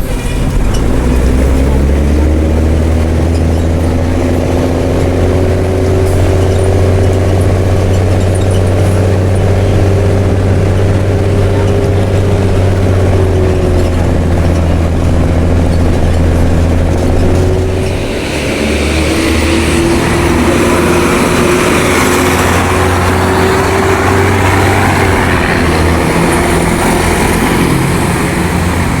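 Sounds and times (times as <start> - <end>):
diesel bus engine running: 0.0 - 29.0
steady whine: 0.0 - 29.0.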